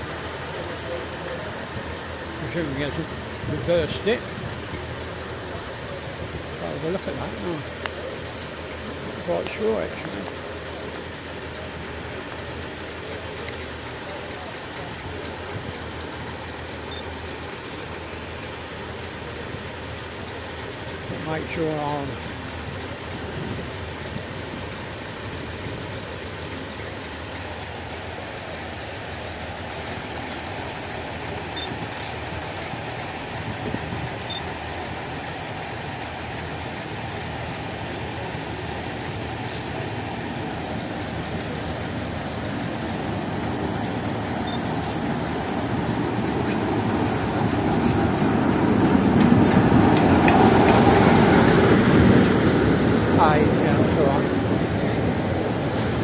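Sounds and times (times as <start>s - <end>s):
diesel train engine rumble: 0.0s - 56.0s.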